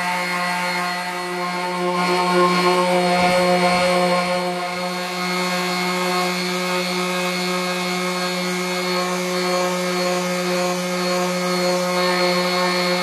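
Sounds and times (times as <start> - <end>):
orbital sander motor hum: 0.0 - 13.0
sanding pad hissing on wood: 0.0 - 13.0.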